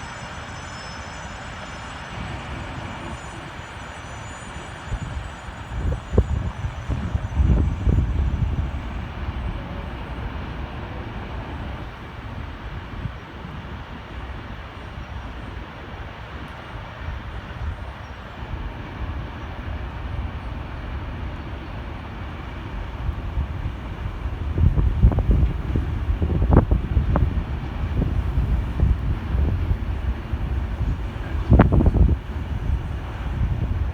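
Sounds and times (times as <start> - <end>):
train rolling past: 0.0 - 33.9
wind buffeting microphone: 4.6 - 15.7, 16.4 - 33.9.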